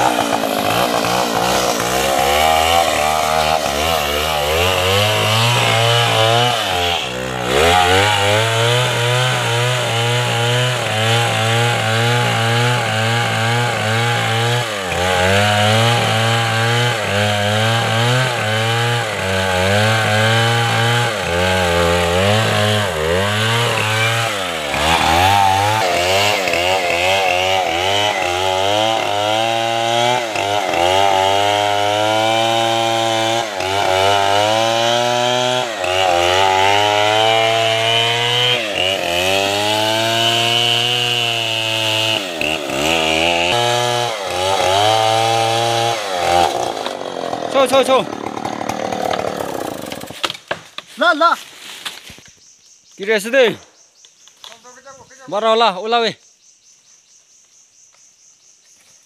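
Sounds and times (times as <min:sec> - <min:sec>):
chainsaw cutting wood: 0:00.0 - 0:52.2.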